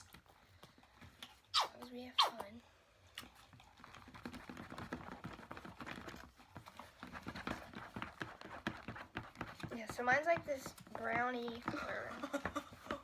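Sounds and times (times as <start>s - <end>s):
slime being stirred: 0.0s - 13.0s.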